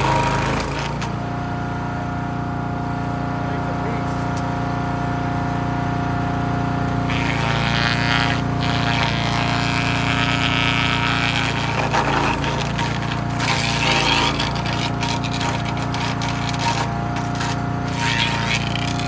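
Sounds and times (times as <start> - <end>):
branches grinding in chipper: 0.0 - 19.0
wood chipper engine running: 0.0 - 19.0.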